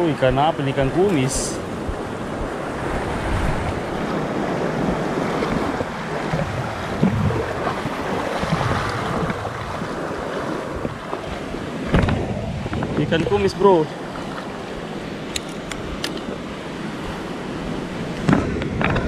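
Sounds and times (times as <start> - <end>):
small waves washing on shore: 0.0 - 19.0
wind buffeting microphone: 0.0 - 19.0.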